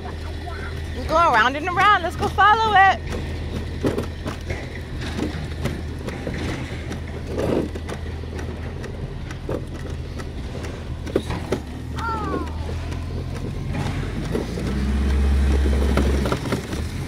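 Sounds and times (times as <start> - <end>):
garbage truck engine humming: 0.0 - 17.0.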